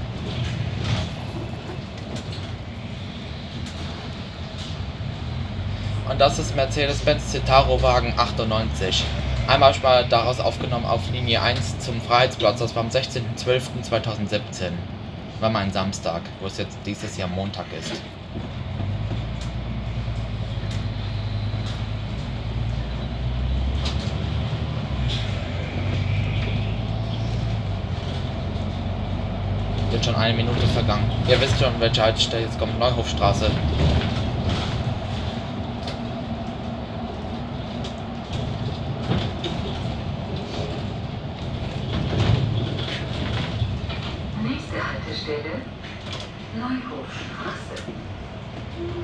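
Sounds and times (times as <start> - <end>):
bus engine hum: 0.0 - 49.0.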